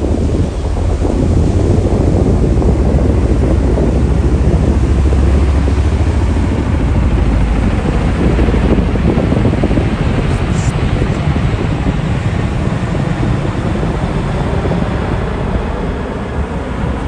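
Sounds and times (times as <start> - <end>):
helicopter engine deep drone: 0.0 - 17.0
helicopter rotor blades beating: 0.0 - 17.0.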